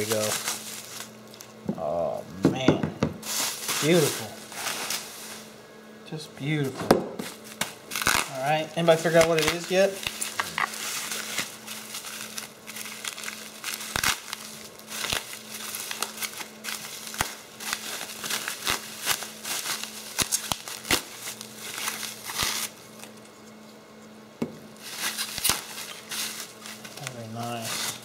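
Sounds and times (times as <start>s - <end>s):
bubble wrap crinkling: 0.0s - 2.2s, 3.2s - 5.6s, 7.2s - 23.2s, 24.7s - 28.0s.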